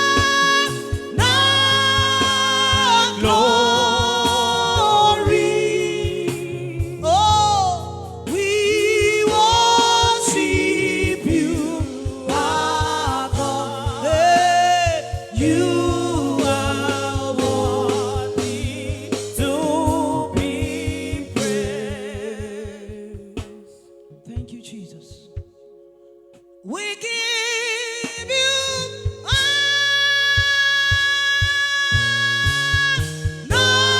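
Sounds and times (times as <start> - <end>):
steady drum beat: 0.0 - 23.7, 29.0 - 29.8, 30.4 - 33.9
person singing gospel: 0.0 - 25.4, 26.6 - 33.9
sustained backing music: 0.0 - 33.9.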